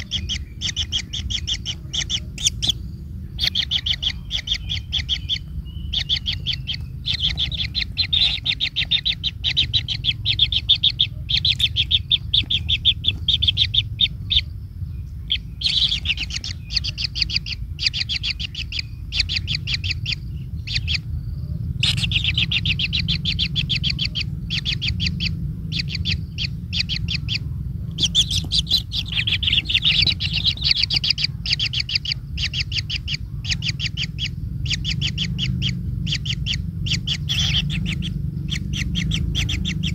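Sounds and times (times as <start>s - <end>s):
bird calling in rapid trills: 0.0s - 39.9s
low background hum: 0.0s - 39.9s.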